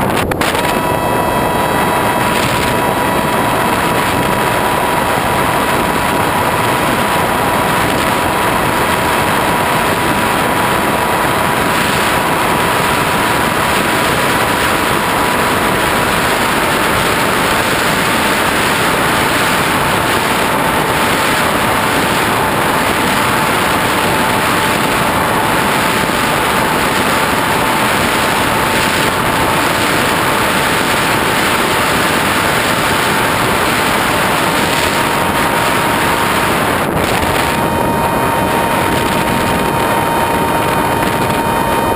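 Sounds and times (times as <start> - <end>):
motor and propeller whine: 0.0 - 41.9
rushing wind noise: 0.0 - 41.9.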